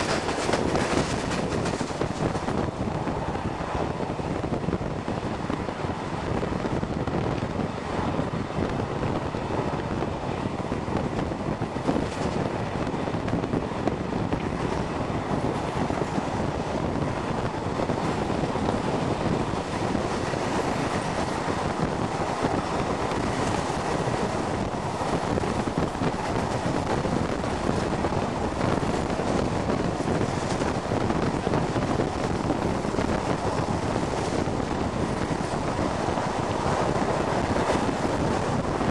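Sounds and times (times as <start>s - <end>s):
train rumbling at speed: 0.0s - 38.9s
wind on microphone: 0.0s - 38.9s.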